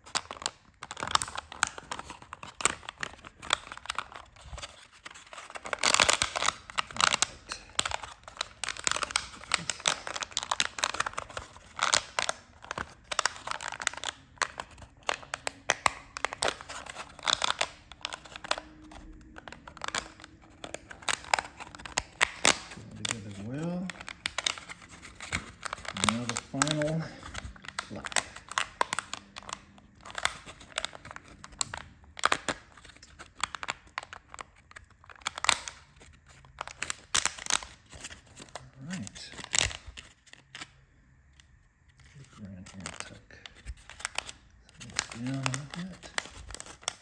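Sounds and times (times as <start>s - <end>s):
plastic strips clicking and crinkling: 0.0s - 47.0s.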